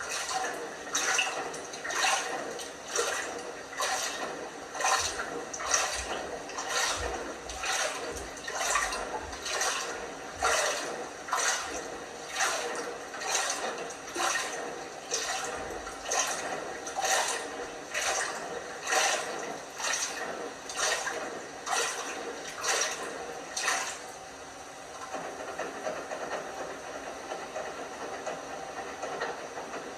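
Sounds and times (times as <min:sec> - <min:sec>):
washing machine water sloshing: 0:00.0 - 0:25.6.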